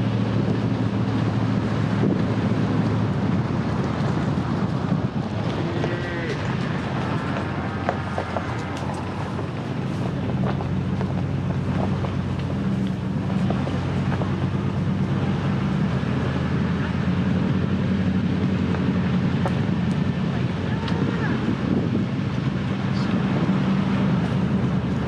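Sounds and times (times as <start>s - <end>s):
tyre and road noise: 0.0s - 25.0s
vehicle engine drone: 0.0s - 25.0s.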